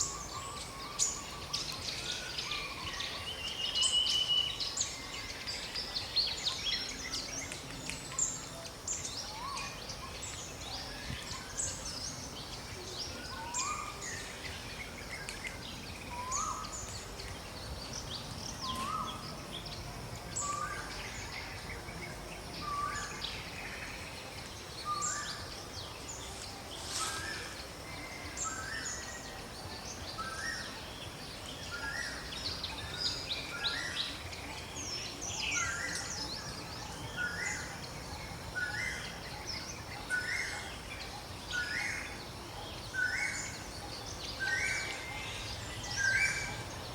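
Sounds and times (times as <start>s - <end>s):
birds chirping and calling: 0.0s - 46.9s
steady background hiss: 0.0s - 46.9s.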